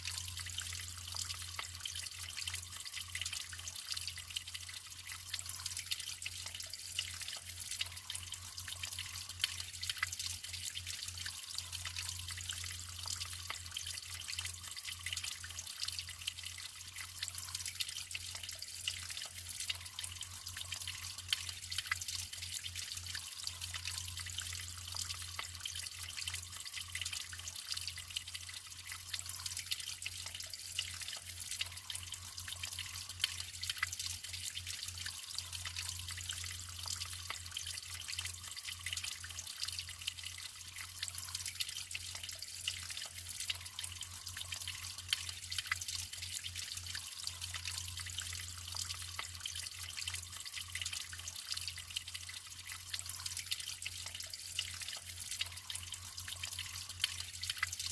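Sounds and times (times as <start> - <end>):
water flowing: 0.0 - 57.9.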